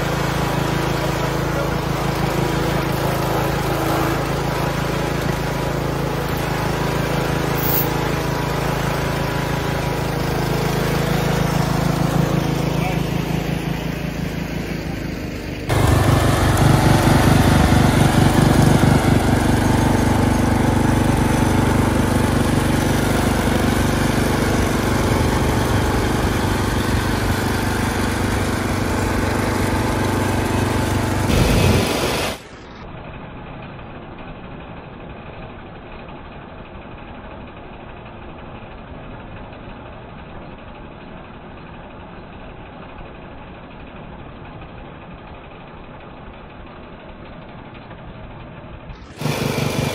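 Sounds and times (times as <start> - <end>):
garden tractor engine running: 0.0 - 49.9.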